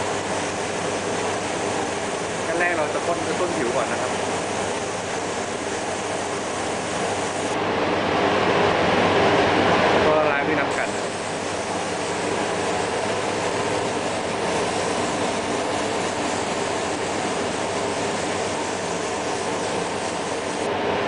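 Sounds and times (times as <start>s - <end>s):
spray gun hissing: 0.0s - 7.6s, 10.7s - 20.7s.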